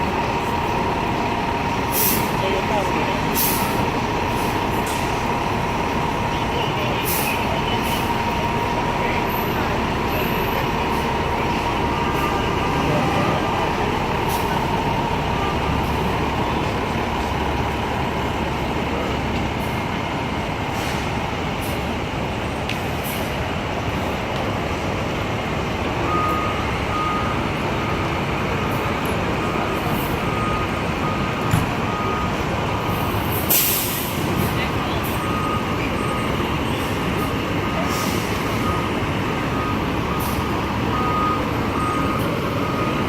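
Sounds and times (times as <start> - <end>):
reversing beeper beeps: 0.0 - 19.1, 26.0 - 43.0
city street noise: 0.0 - 43.0
diesel engine running: 0.0 - 43.0.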